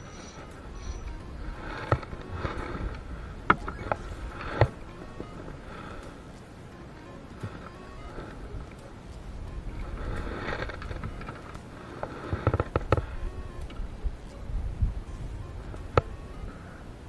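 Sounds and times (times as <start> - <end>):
low wind rumble on microphone: 0.0 - 17.0.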